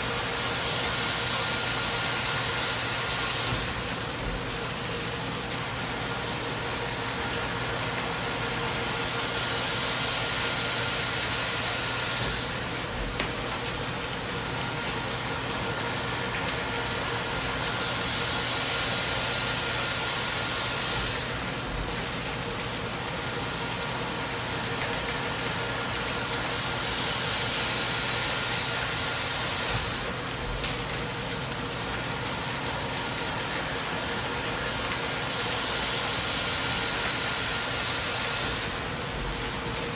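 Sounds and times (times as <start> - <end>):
machine hiss: 0.0 - 39.9.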